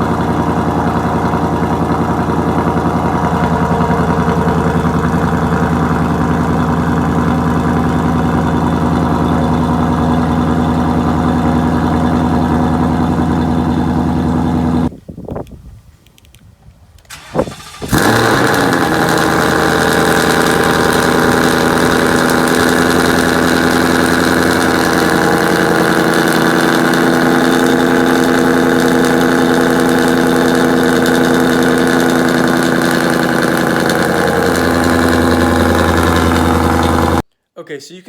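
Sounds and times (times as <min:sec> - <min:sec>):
car engine starting and idling: 0:00.0 - 0:14.9, 0:17.0 - 0:37.3.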